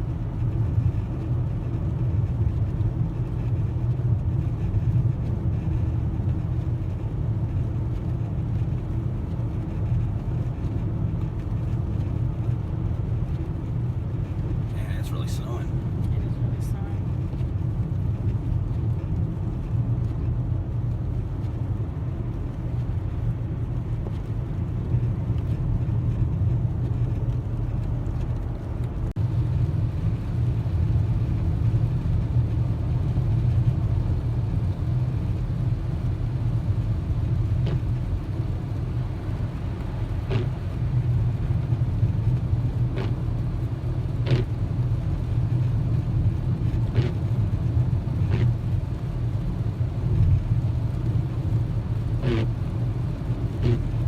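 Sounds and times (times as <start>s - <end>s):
car engine and tyres rumbling: 0.0s - 54.0s.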